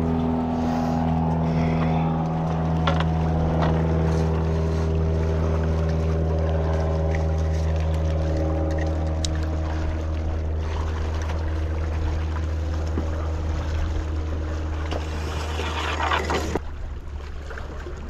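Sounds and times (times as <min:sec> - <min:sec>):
boat engine drone: 0:00.0 - 0:18.0.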